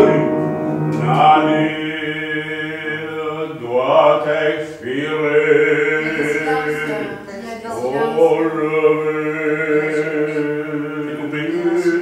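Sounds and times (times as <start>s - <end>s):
man singing long notes: 0.0s - 12.0s.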